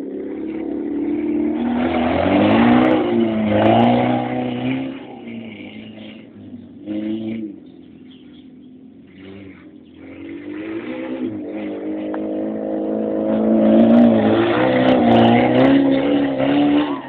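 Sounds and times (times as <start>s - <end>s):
car engine under throttle: 0.0s - 17.0s.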